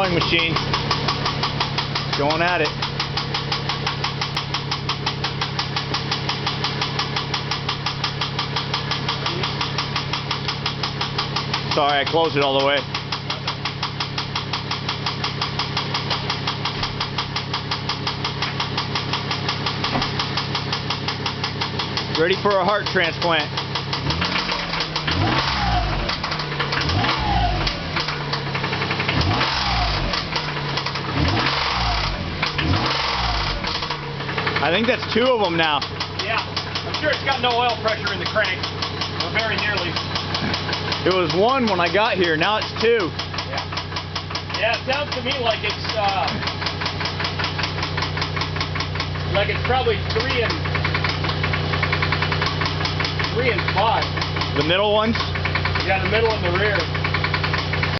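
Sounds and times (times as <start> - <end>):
fast engine rod knock: 0.0 - 29.5, 32.4 - 57.9
car engine idling: 0.0 - 57.9.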